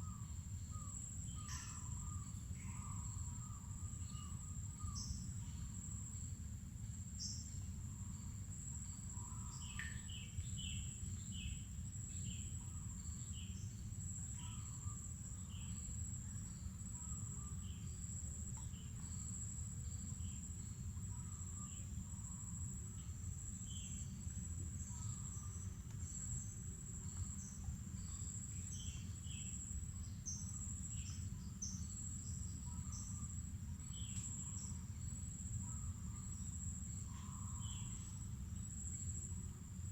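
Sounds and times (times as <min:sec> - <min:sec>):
insects trilling: 0:00.0 - 0:06.4, 0:07.0 - 0:39.9.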